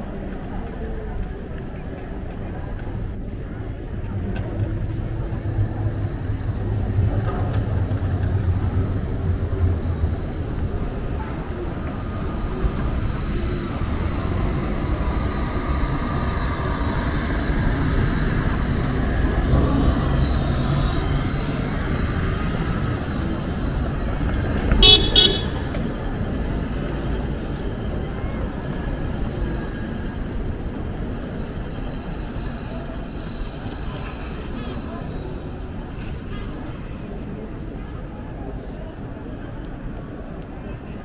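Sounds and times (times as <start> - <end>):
street traffic: 0.0 - 41.0
heavy vehicle engine running: 2.8 - 38.6.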